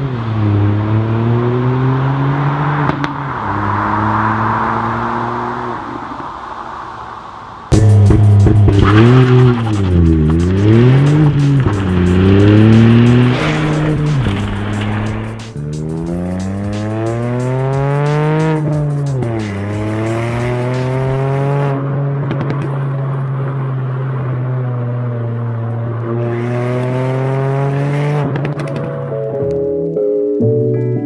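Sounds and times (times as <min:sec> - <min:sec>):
car engine accelerating: 0:00.0 - 0:06.2, 0:07.7 - 0:28.9.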